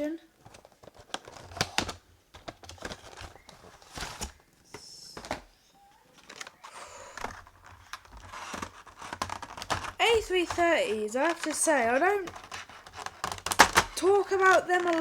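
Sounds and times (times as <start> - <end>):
packaging clicks and taps: 0.4 - 5.5, 6.2 - 15.0.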